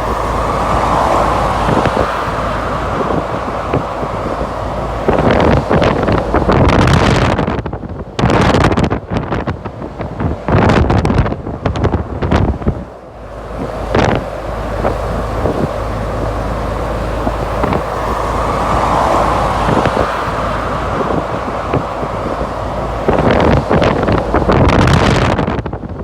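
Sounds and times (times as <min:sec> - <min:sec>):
jet engines roaring: 0:00.0 - 0:25.8
wind buffeting microphone: 0:00.0 - 0:26.0.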